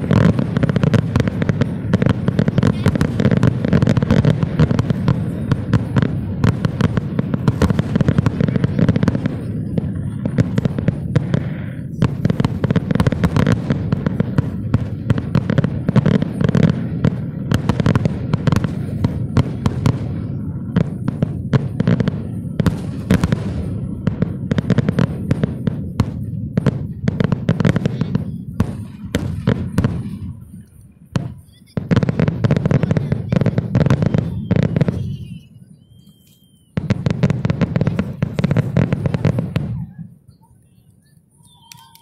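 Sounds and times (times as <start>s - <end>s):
fireworks bursting: 0.0s - 42.0s
fireworks crackling: 0.0s - 42.0s.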